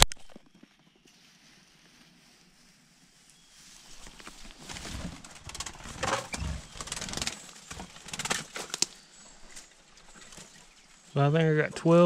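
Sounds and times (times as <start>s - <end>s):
dry grass and twigs rustling: 0.0s - 11.3s.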